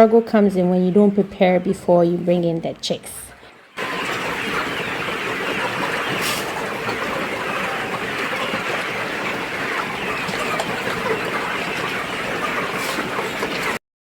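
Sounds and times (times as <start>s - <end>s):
chickens clucking and cheeping: 0.0s - 13.8s.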